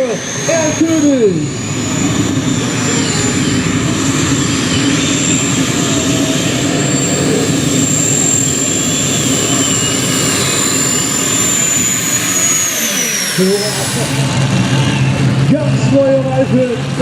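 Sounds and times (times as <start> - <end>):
high whine sliding down: 0.0 - 15.6
tractor engines running loud: 0.0 - 17.0.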